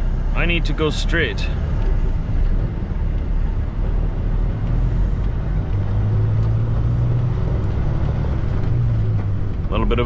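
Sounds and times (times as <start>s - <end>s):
diesel engine rumble: 0.0s - 10.0s.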